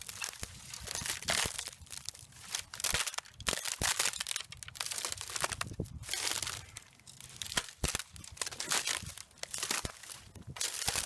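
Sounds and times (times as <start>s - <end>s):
boots crunching through dry stalks: 0.0s - 11.0s
brittle stems snapping: 0.0s - 11.0s.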